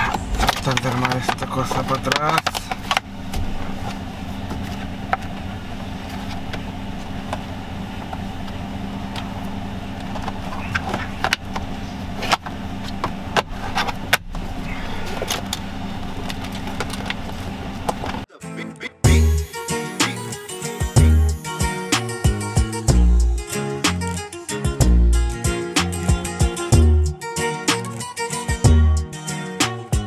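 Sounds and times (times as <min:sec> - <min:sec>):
steady low hum: 0:00.0 - 0:18.3, 0:20.8 - 0:27.2.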